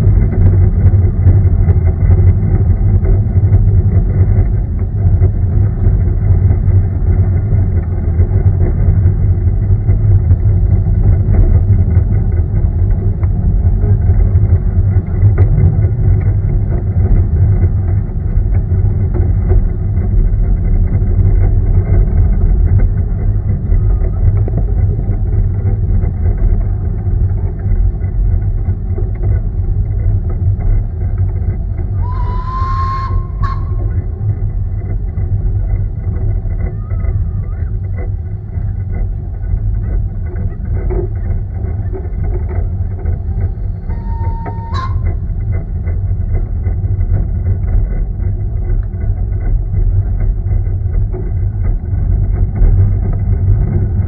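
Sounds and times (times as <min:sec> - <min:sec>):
steam train low rumble: 0:00.0 - 0:54.0.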